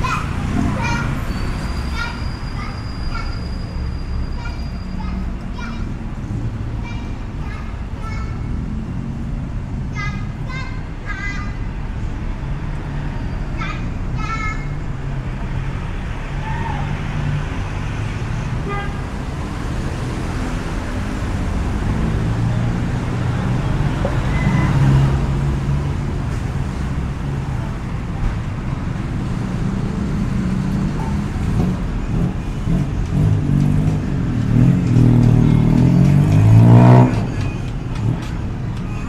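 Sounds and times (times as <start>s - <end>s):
vehicle engines running: 0.0s - 39.0s.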